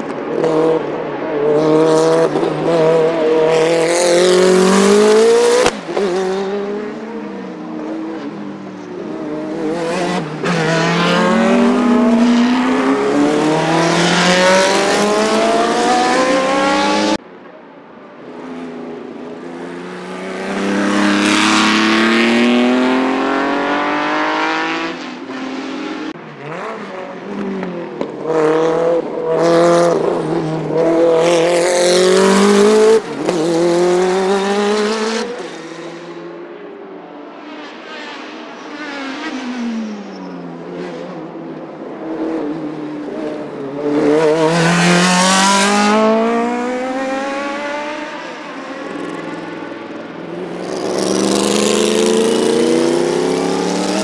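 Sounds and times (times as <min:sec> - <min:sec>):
race cars passing: 0:00.0 - 0:54.0.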